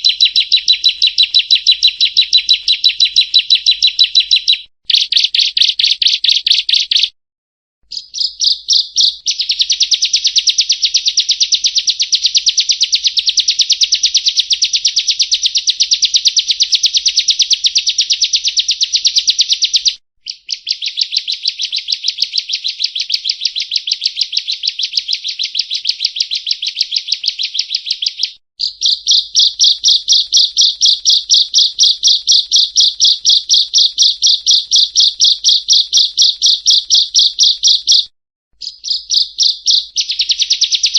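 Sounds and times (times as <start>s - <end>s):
bird singing fast trills: 0.0s - 7.1s, 7.9s - 40.9s.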